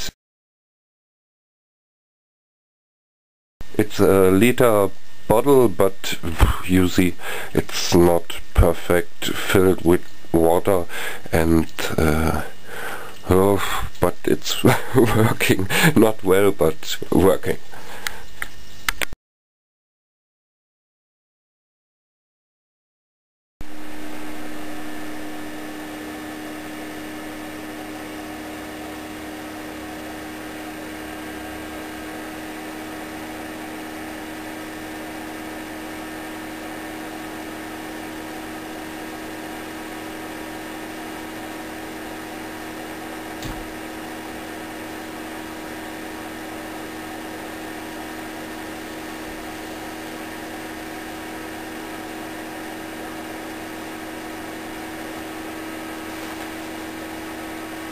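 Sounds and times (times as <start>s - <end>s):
power supply fan humming: 3.6s - 19.1s, 23.6s - 57.9s.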